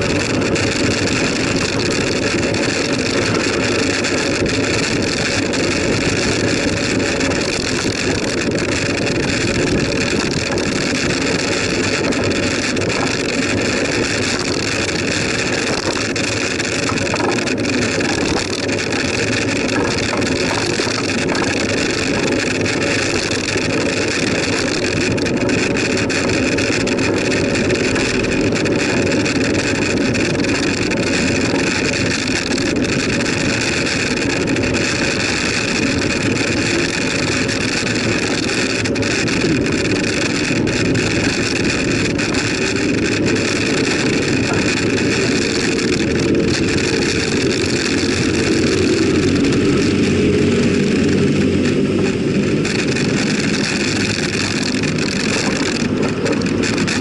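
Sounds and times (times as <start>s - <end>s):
bicycle road noise: 0.0s - 57.0s
wind noise on microphone: 0.0s - 57.0s.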